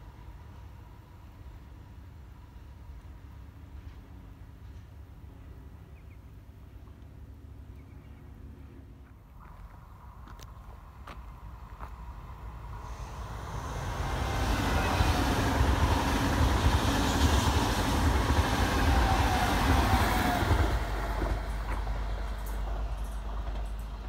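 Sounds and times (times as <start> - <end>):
train rolling past: 0.0 - 5.9, 9.8 - 24.0.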